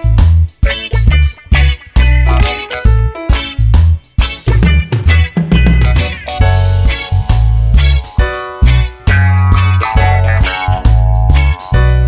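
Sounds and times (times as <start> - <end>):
music with bass-heavy beat: 0.0 - 12.0.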